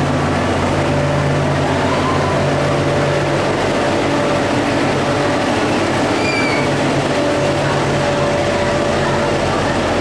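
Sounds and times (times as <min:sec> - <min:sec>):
train engine hum and running: 0:00.0 - 0:10.0.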